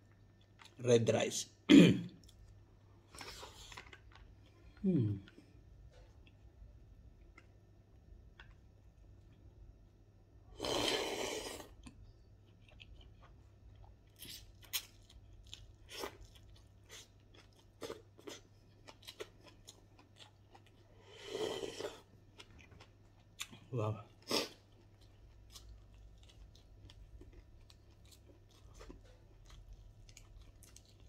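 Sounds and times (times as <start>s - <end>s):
person chewing crunchy vegetables: 0.0s - 0.8s, 2.2s - 9.4s, 10.6s - 31.0s.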